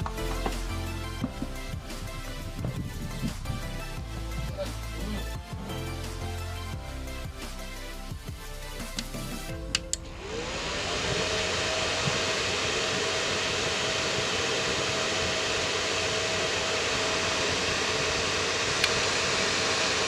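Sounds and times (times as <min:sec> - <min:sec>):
electric cooling fan running: 0:00.0 - 0:20.0.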